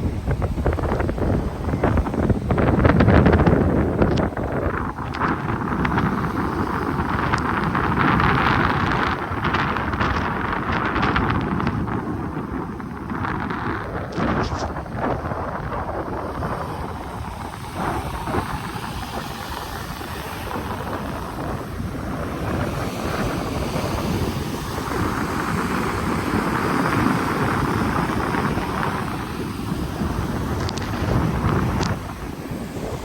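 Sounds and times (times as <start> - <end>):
sea surf washing ashore: 0.0 - 33.0
wind buffeting microphone: 0.0 - 33.0.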